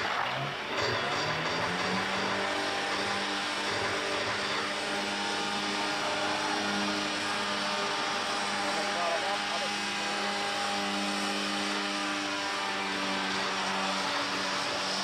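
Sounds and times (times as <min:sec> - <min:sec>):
hovercraft engine hum: 0:00.0 - 0:15.0.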